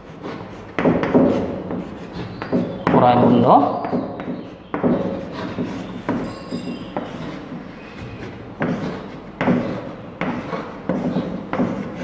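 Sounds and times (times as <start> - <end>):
chalk scraping on blackboard: 0.0 - 12.0
chalk tapping on blackboard: 0.0 - 12.0.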